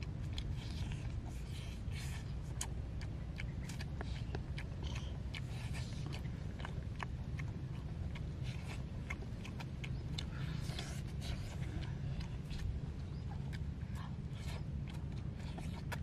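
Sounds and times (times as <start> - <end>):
children chewing and smacking lips: 0.0 - 16.0
sharp mouth clicks: 0.0 - 16.0
steady low rumble: 0.0 - 16.0.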